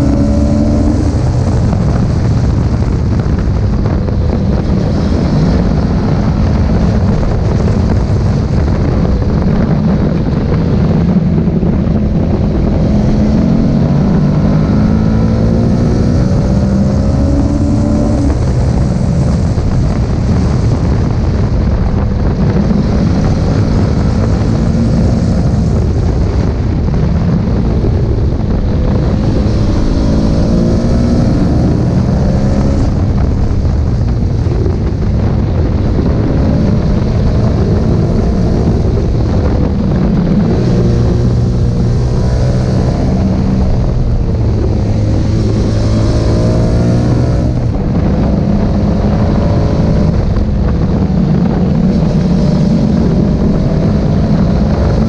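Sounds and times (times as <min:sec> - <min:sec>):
motorcycle engine revving: 0:00.0 - 0:55.0
wind rushing over microphone: 0:00.0 - 0:55.0.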